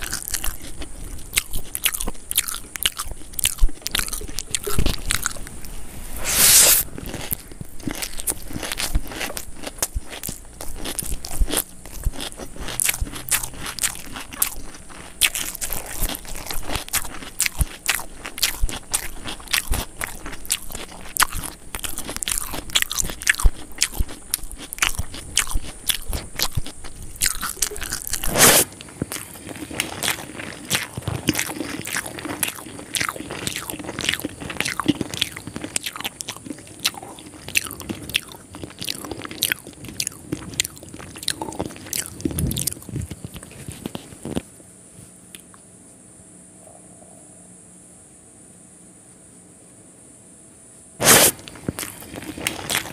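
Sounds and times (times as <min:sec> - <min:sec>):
crunching and chewing food: 0:00.0 - 0:46.0, 0:51.0 - 0:52.9.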